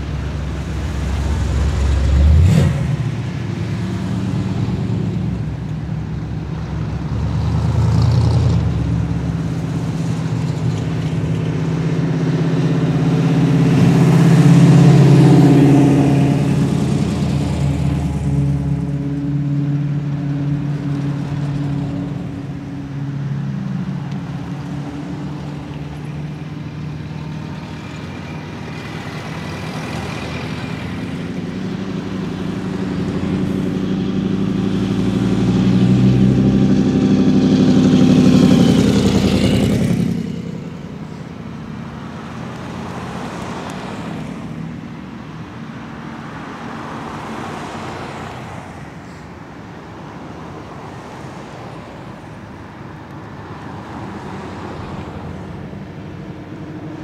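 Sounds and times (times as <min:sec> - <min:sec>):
cars driving past: 0:00.0 - 0:57.0.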